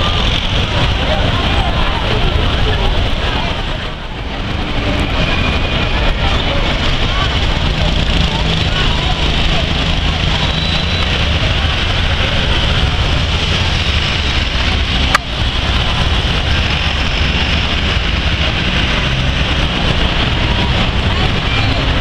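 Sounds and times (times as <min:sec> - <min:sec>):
crowd murmur: 0:00.0 - 0:22.0
road traffic rumble: 0:00.0 - 0:22.0.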